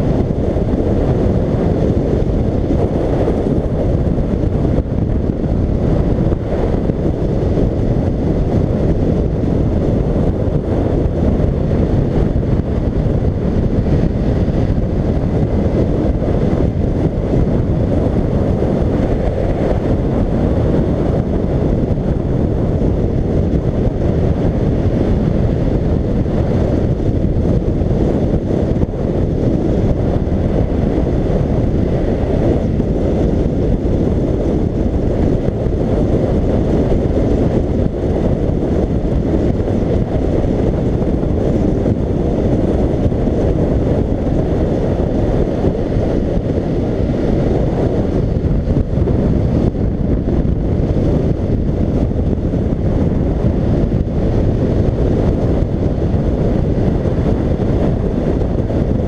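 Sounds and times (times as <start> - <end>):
motorcycle engine drone: 0.0 - 59.0
wind buffeting microphone: 0.0 - 59.0.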